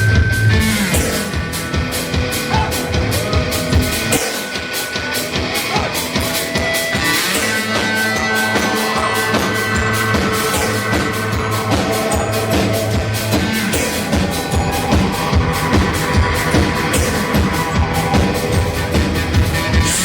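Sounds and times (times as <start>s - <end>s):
bass notes: 0.0s - 20.0s
drum kit beat: 0.0s - 20.0s
held guitar notes: 0.0s - 20.0s.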